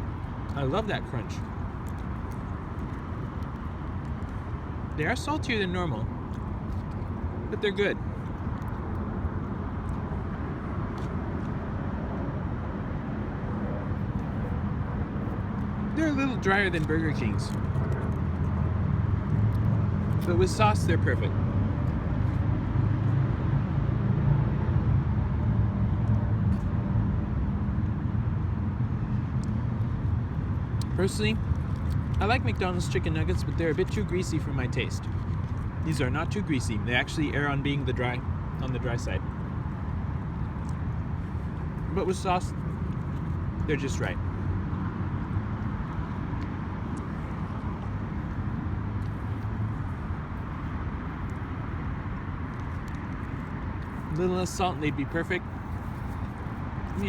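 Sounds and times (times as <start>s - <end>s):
city traffic rumble: 0.0s - 57.0s.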